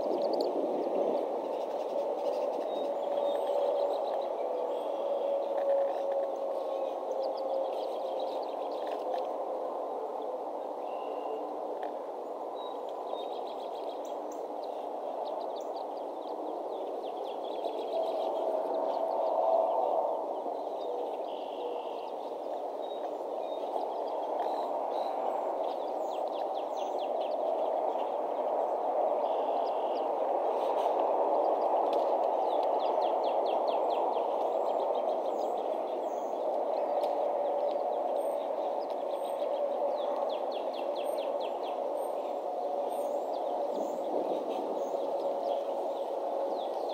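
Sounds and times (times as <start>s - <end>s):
low rushing background noise: 0.0s - 46.9s
small songbirds chirping: 0.0s - 46.9s.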